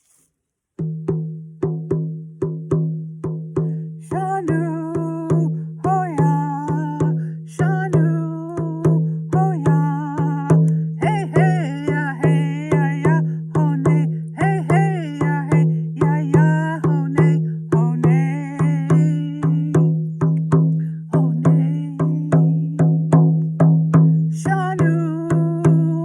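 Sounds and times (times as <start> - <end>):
steady drum beat: 0.8 - 26.0
woman singing: 4.0 - 23.4, 24.3 - 26.0.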